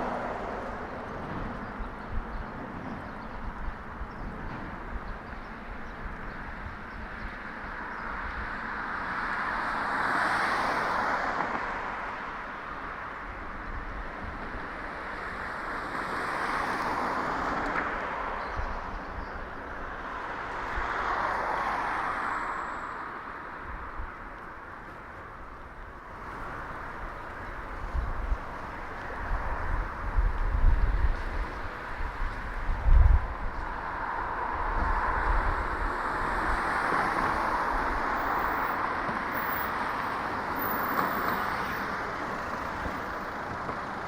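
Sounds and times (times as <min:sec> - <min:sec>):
low traffic rumble: 0:00.0 - 0:44.0
vehicles passing: 0:00.0 - 0:44.0.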